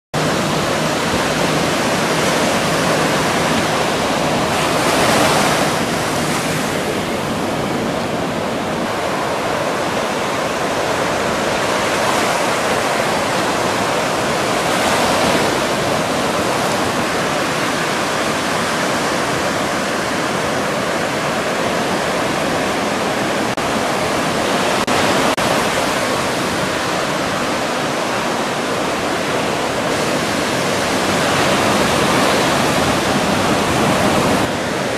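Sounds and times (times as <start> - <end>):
ocean surf washing: 0.2 - 34.9.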